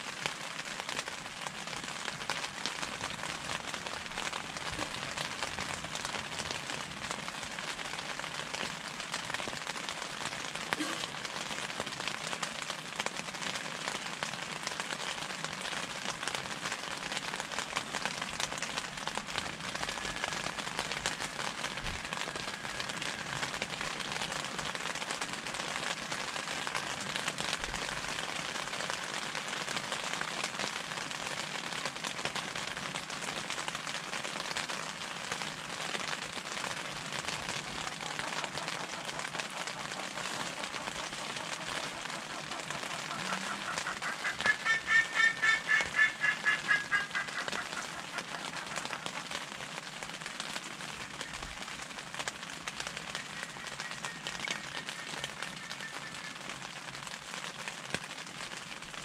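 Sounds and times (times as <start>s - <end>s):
rain pattering on tent fabric: 0.0s - 59.0s.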